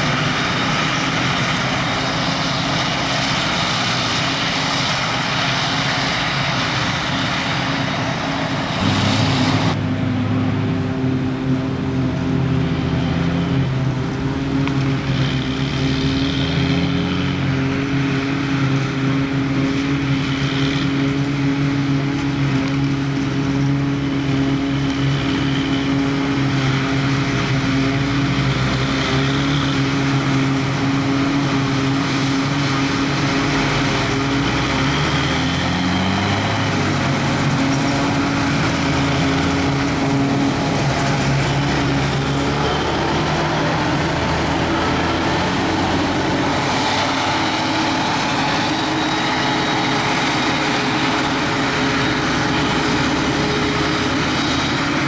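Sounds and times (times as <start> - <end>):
chopper and blower rushing: 0.0 - 55.0
forage harvester engine drone: 0.0 - 55.0
tractor engine: 0.0 - 55.0.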